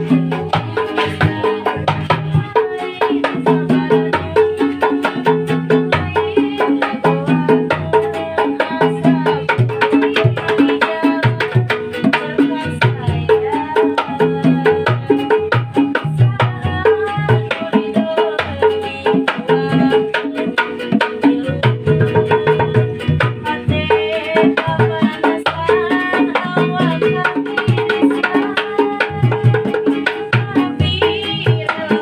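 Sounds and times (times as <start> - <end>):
hand drums beat: 0.0 - 32.0
pitched melody line: 0.0 - 32.0.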